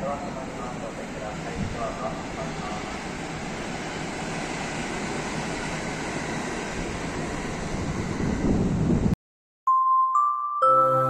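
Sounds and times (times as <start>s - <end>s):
train wheels rumbling on rails: 0.0s - 9.2s.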